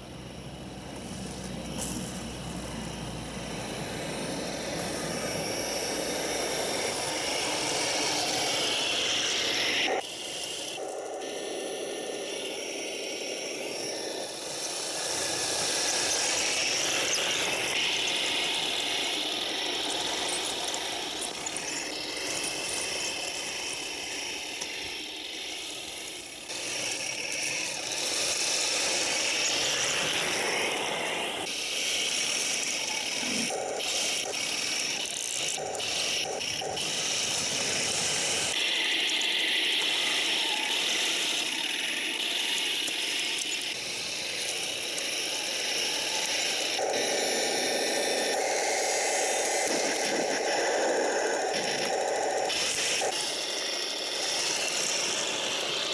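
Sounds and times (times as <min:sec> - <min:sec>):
electric motors and gearboxes whirring: 0:00.0 - 0:55.9.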